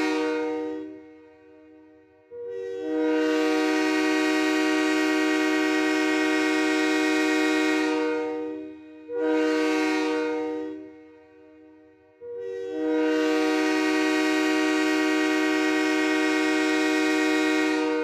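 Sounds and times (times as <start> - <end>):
multi-chime train horn: 0.0 - 18.0.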